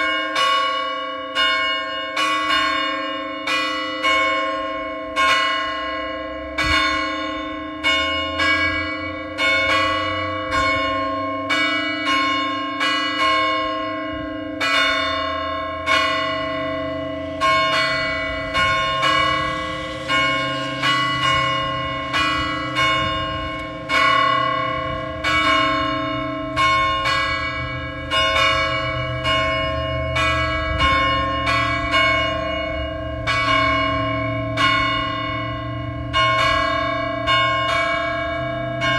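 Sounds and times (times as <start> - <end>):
church bells ringing in a peal: 0.0 - 38.9.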